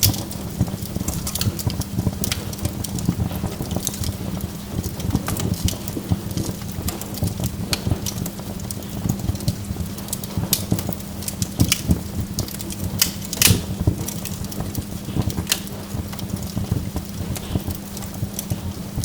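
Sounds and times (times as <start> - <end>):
burning logs crackling and popping: 0.0 - 19.0.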